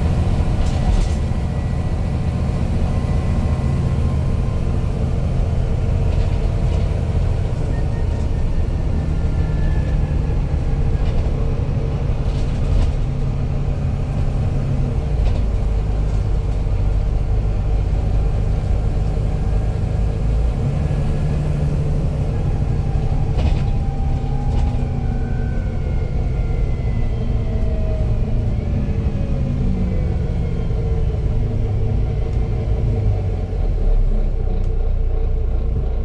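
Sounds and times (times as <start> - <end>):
bus engine low drone: 0.0 - 36.0.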